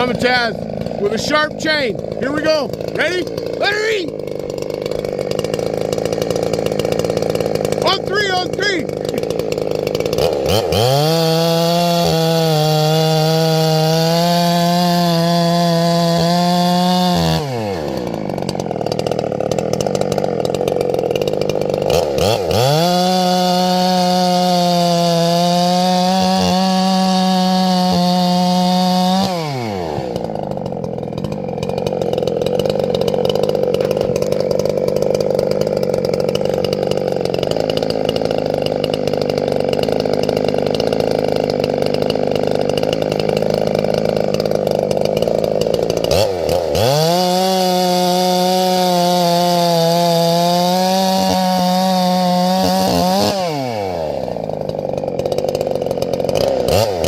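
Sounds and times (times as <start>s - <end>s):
chainsaw cutting at full throttle: 0.0s - 57.0s.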